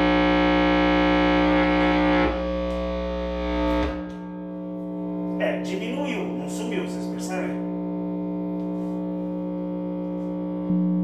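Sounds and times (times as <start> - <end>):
guitar amplifier buzzing hum: 0.0 - 11.0.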